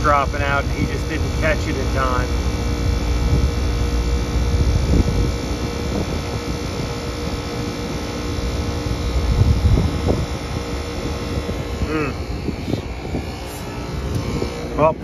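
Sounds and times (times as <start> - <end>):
heat pump humming: 0.0 - 15.0
wind buffeting microphone: 0.0 - 15.0.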